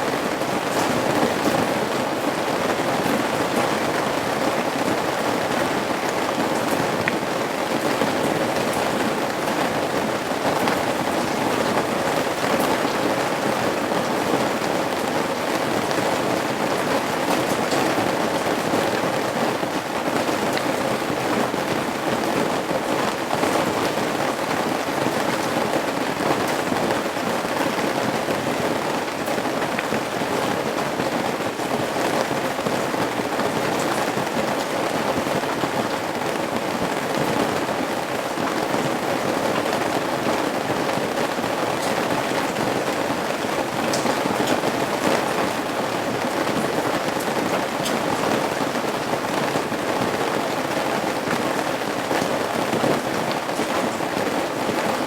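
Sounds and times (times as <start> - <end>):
rain pattering on eaves: 0.0 - 55.0.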